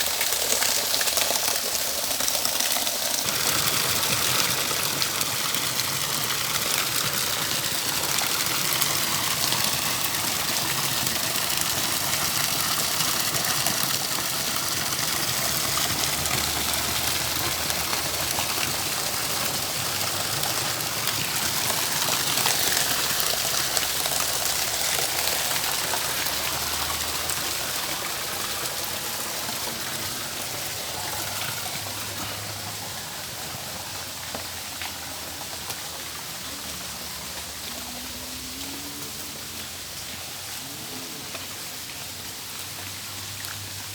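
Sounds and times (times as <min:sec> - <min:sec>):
running water splashing: 0:00.0 - 0:43.9.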